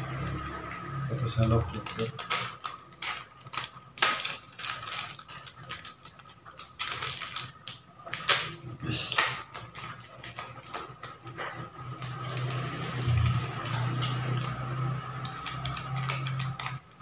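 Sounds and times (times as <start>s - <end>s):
plastic and foil packet crinkling: 1.2s - 17.0s.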